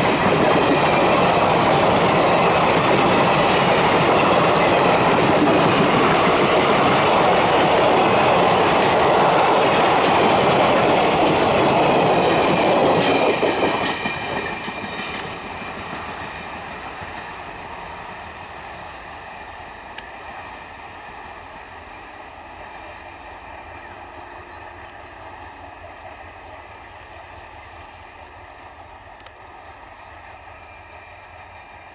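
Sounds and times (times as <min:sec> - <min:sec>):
train coaches rolling past: 0:00.0 - 0:31.9.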